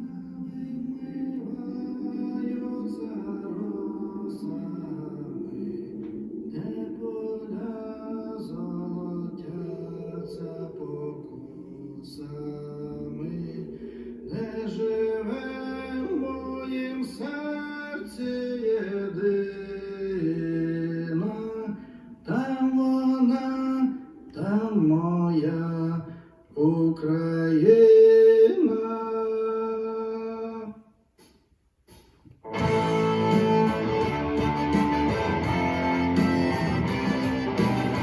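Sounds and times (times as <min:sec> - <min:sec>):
song with sustained sung notes: 0:00.0 - 0:30.8, 0:32.4 - 0:38.0.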